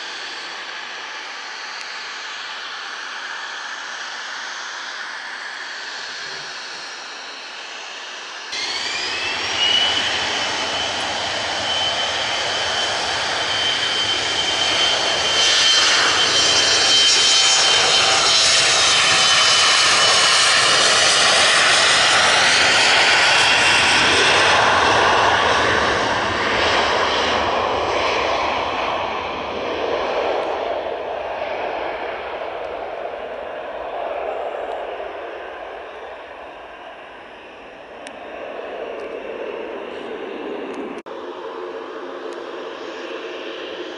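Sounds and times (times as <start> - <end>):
jet engines with high whine: 0.0 - 43.9.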